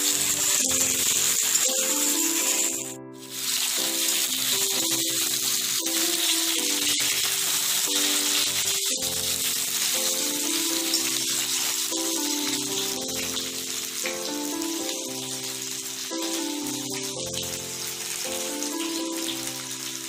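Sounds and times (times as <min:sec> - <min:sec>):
background music of held notes: 0:00.0 - 0:20.0
vegetables sizzling in oil: 0:00.0 - 0:20.0.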